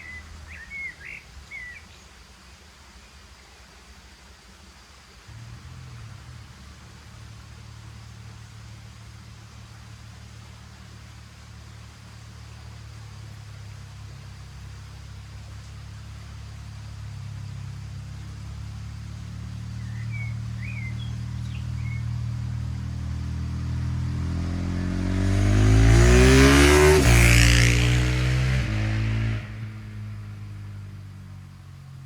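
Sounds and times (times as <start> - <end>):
motorcycle exhaust passing: 5.3 - 32.0.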